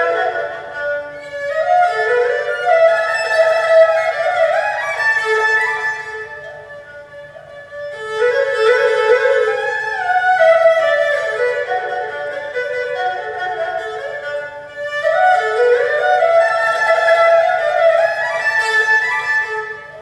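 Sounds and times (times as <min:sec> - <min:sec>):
bowed fiddle solo melody: 0:00.0 - 0:20.0.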